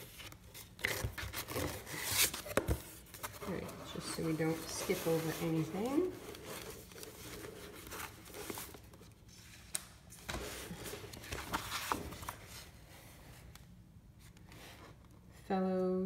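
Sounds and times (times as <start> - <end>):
paper and folder rustling: 0.0 - 13.5.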